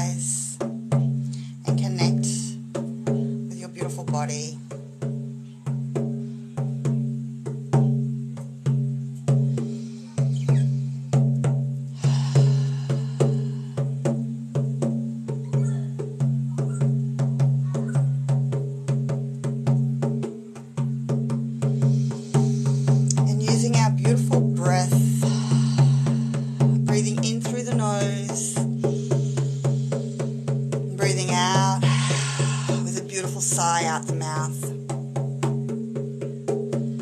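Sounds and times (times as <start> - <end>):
frame drum beaten in steady rhythm: 0.0 - 37.0.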